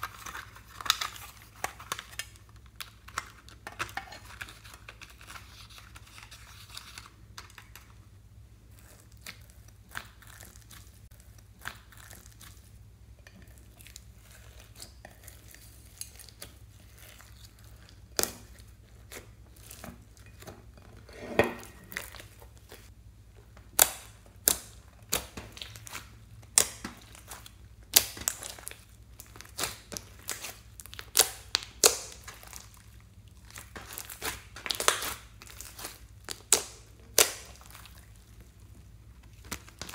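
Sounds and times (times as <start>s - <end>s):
slime crackling and squelching: 0.0s - 12.8s, 13.4s - 20.6s, 23.7s - 39.9s.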